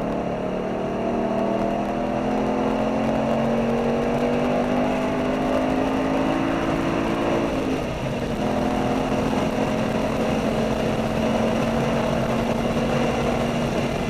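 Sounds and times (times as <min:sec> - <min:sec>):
car engine at steady revs: 0:00.0 - 0:14.0
wind and road noise: 0:00.0 - 0:14.0.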